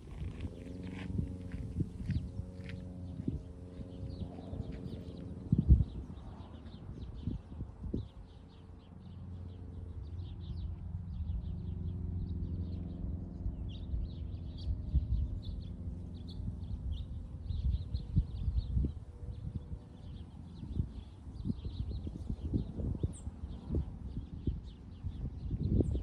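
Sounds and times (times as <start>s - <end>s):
low engine-like rumble: 0.0s - 26.0s
small birds chirping: 0.0s - 26.0s.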